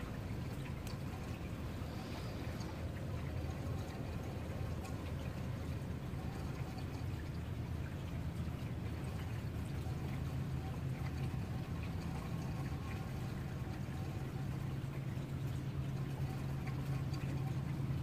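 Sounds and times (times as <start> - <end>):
steady rain: 0.0 - 15.0
low hum: 0.0 - 18.0.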